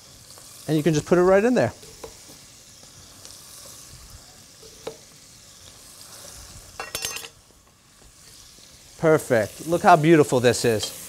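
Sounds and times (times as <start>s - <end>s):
vegetables sizzling in pot: 0.0s - 11.0s.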